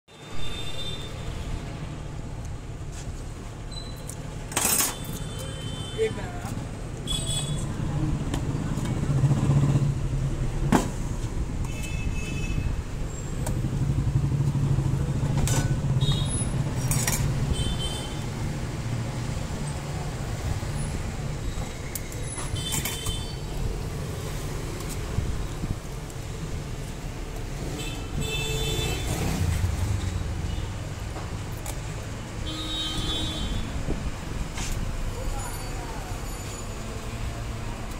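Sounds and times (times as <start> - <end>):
road traffic: 0.1 - 37.9.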